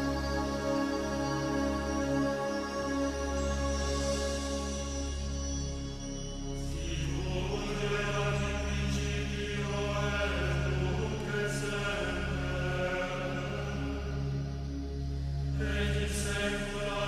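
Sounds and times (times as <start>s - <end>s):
slow music with held notes: 0.0s - 17.0s.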